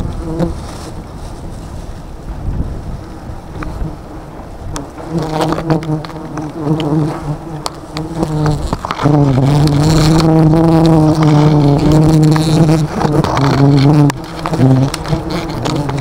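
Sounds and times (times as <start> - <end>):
bees buzzing: 2.9 - 16.0.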